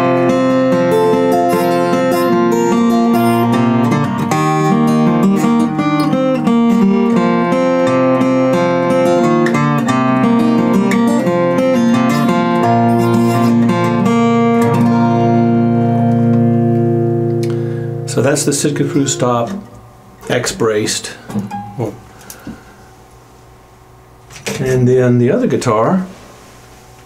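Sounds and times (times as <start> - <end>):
acoustic guitar picking and strumming: 0.0 - 25.2.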